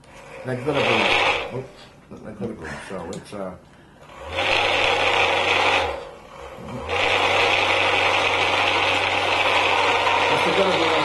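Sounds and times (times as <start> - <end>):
small electric motor whirring: 0.0 - 1.9, 4.0 - 11.0.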